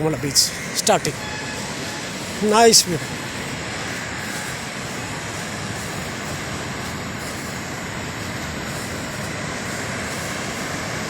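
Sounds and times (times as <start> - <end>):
sea surf rushing: 0.0 - 11.0
wind: 0.0 - 11.0.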